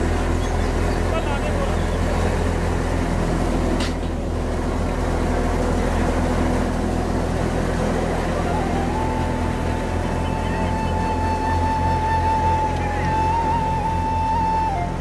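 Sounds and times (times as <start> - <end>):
tractor engine: 0.0 - 15.0
wheat thresher droning: 0.0 - 15.0.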